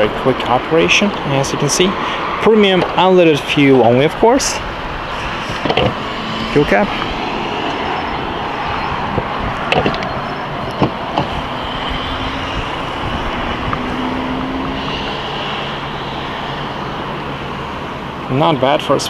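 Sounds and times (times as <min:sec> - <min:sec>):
vehicle running roar: 0:00.0 - 0:19.0.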